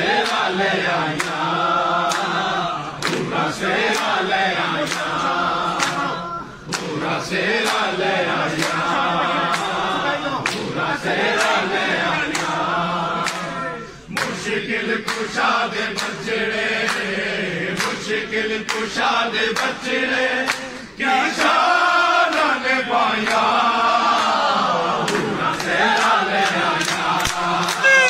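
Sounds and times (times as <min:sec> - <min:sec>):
men chanting together: 0:00.0 - 0:28.0
sharp hand claps: 0:00.1 - 0:06.1, 0:06.7 - 0:07.0, 0:07.6 - 0:09.8, 0:10.4 - 0:21.6, 0:22.2 - 0:23.5, 0:25.0 - 0:28.0.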